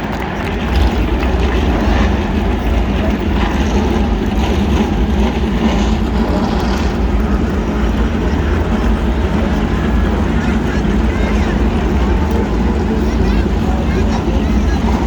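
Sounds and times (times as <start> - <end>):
race car engines rumbling: 0.0 - 15.0.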